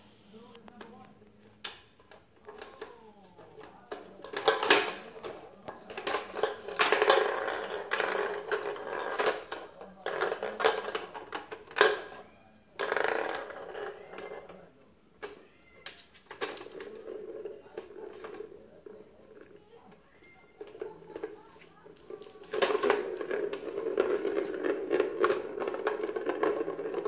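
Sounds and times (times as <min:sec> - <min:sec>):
plastic balls rattling in track: 0:01.7 - 0:19.6, 0:20.2 - 0:27.0.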